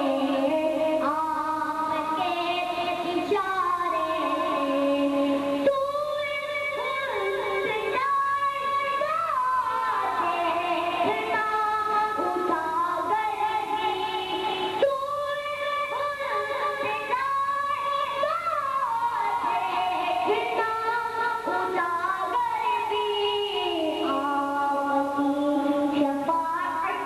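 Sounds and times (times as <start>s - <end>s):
boy singing into a microphone: 0.0s - 27.0s.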